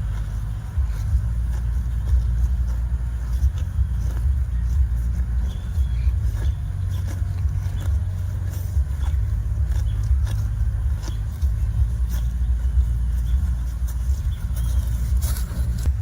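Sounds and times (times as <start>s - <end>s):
hooves clicking and knocking: 0.0s - 16.0s
low rumble: 0.0s - 16.0s.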